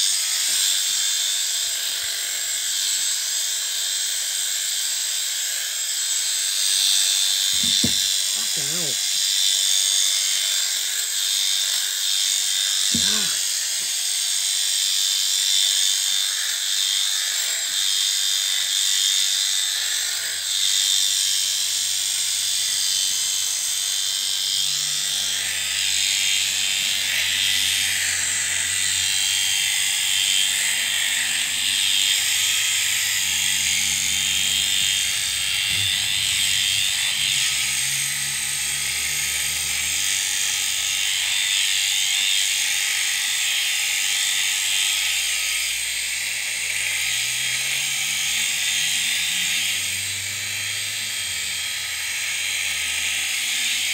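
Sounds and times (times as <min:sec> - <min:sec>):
electric shearing handpiece buzzing: 0:00.0 - 0:53.9.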